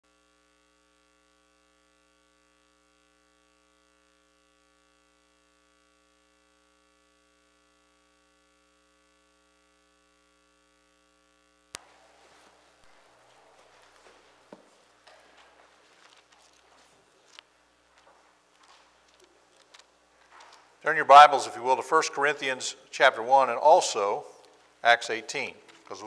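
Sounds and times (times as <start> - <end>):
faint electrical hum: 0.1 - 26.0.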